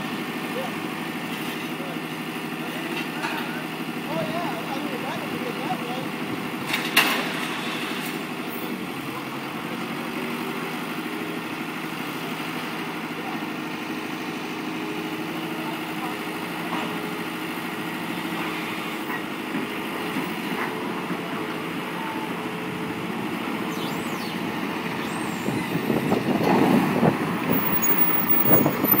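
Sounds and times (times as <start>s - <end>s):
diesel engines running: 0.0s - 29.0s.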